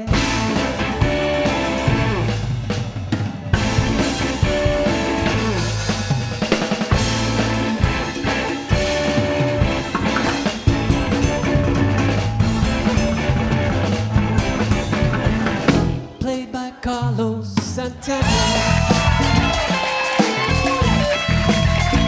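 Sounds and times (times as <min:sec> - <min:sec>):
instrumental band music: 0:00.0 - 0:17.1, 0:17.9 - 0:22.0
drum kit: 0:00.0 - 0:22.0.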